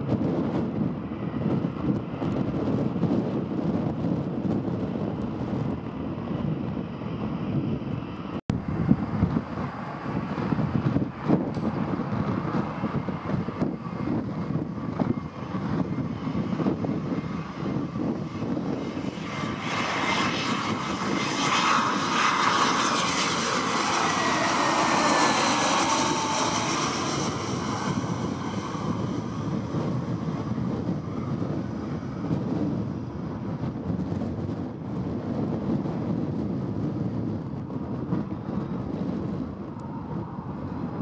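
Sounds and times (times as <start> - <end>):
jet airliner passing: 0.0 - 41.0
jet engine whine: 0.0 - 41.0.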